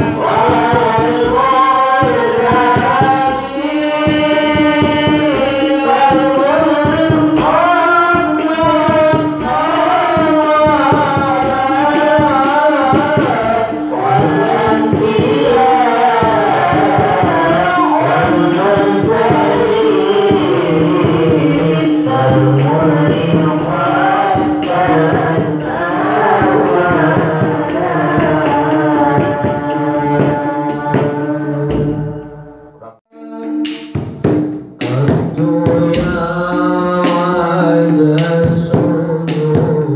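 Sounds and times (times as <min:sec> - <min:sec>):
woman singing through microphone: 0:00.0 - 0:32.4
rhythmic percussion: 0:00.0 - 0:39.9.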